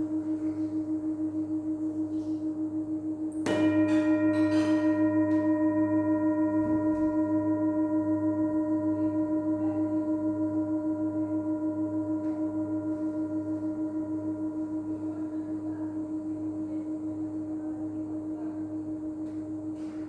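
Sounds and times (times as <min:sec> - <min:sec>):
singing bowl ringing: 0:00.0 - 0:20.0.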